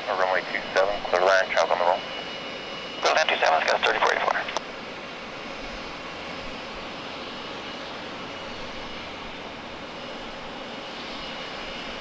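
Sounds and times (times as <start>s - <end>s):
jet airliner engine noise: 0.0s - 12.0s.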